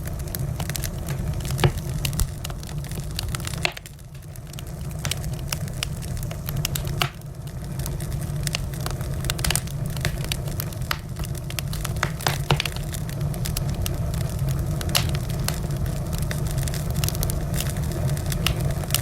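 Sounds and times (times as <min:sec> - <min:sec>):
fire crackling and popping: 0:00.0 - 0:19.0
wood fire rumbling: 0:00.0 - 0:19.0.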